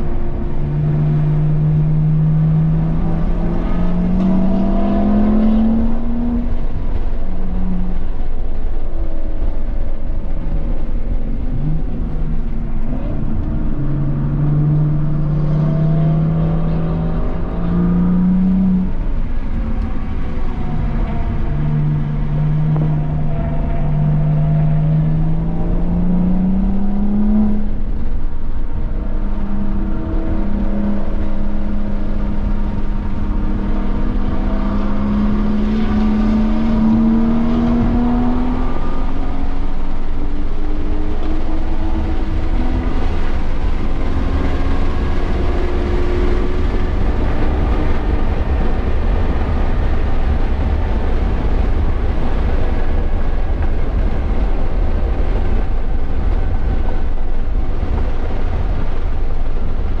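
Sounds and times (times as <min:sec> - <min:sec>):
car engine accelerating hard: 0:00.0 - 1:00.0
wind and road rumble: 0:00.0 - 1:00.0.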